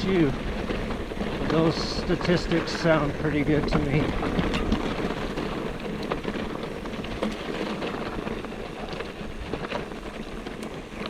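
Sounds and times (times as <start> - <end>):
bike tyres on dirt and gravel: 0.0 - 11.0.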